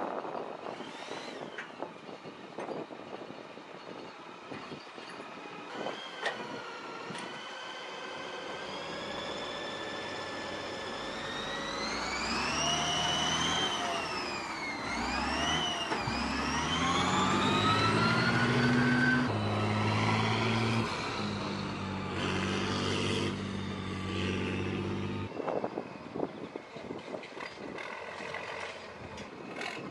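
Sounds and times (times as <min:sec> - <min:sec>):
tracked vehicle engine whining: 0:00.2 - 0:29.9.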